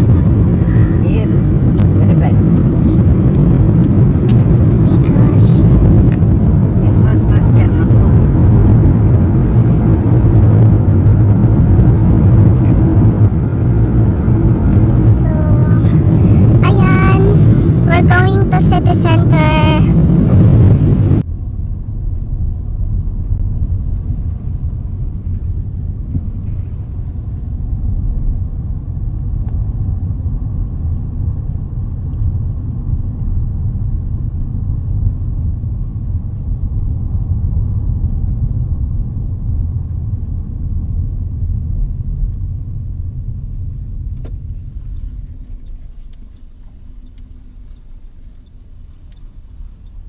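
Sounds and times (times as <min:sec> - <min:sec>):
car driving rumble: 0:00.0 - 0:50.0.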